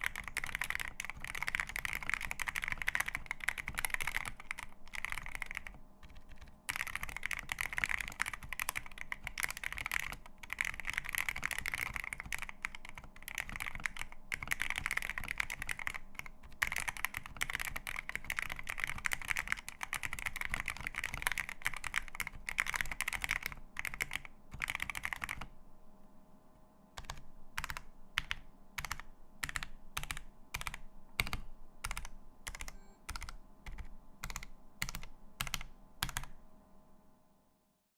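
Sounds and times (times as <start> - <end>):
mechanical keyboard typing: 0.0 - 25.5, 27.0 - 36.4.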